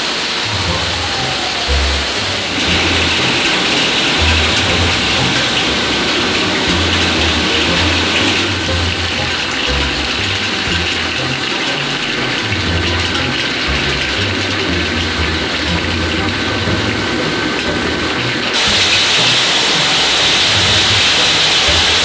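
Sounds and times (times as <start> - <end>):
hissing machine din: 0.0 - 22.0
low shifting hum: 0.2 - 19.3.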